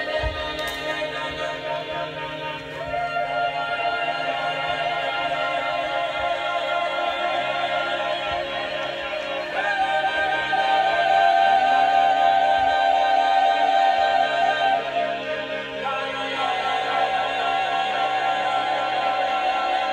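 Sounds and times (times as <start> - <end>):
mixed choir singing chords: 0.0 - 19.9.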